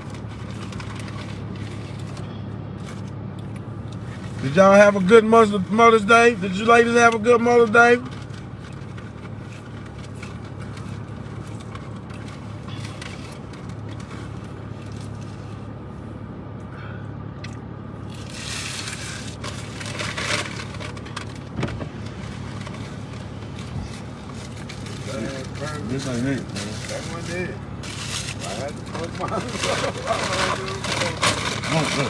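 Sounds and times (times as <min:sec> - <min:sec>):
paper wrappers crackling: 0:00.0 - 0:15.9, 0:18.0 - 0:32.0
car cabin hum: 0:00.0 - 0:16.7, 0:17.4 - 0:32.0.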